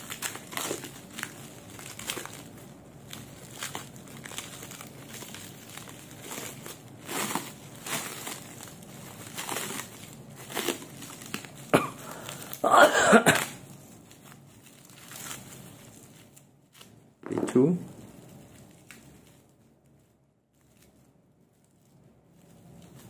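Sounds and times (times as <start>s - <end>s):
plastic wrap crinkling: 0.0s - 23.0s.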